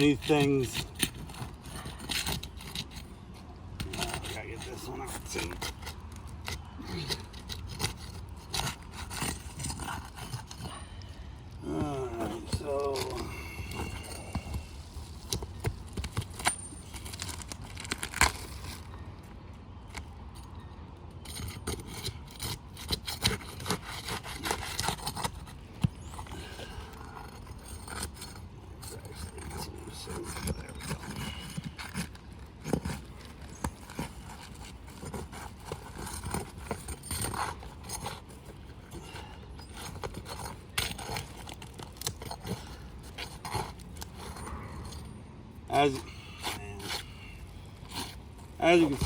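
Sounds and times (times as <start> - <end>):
shingles scraping and rubbing: 0.0 - 19.0, 21.2 - 49.0.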